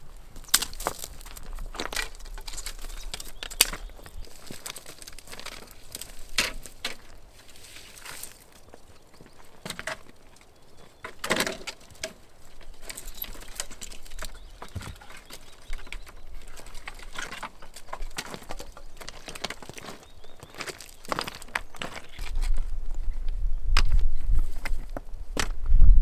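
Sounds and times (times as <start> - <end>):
rustling: 0.0 - 25.7.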